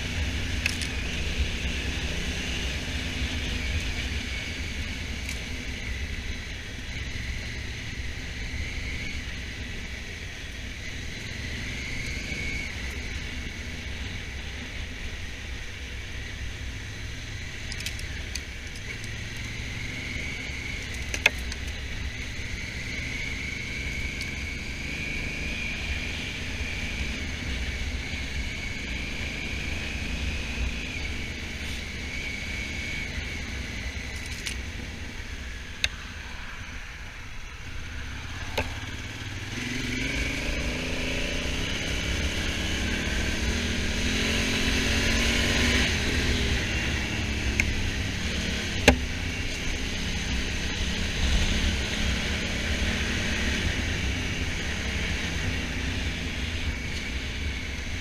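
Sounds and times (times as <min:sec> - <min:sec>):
motorcycle engine running: 0:00.0 - 0:36.8, 0:37.5 - 0:58.0.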